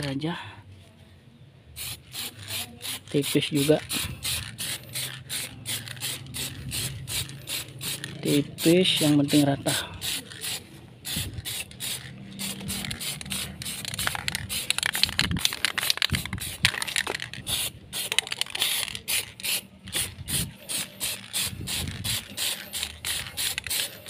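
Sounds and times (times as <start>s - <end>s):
aerosol can spraying in spurts: 1.8s - 24.0s.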